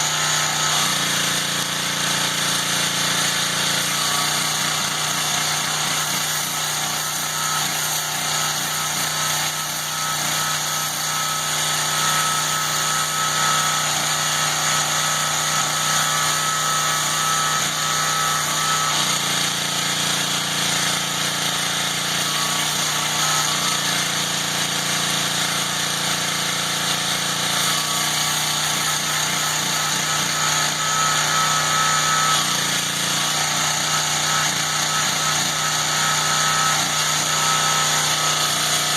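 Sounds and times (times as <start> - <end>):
pressure washer engine running: 0.0 - 38.9.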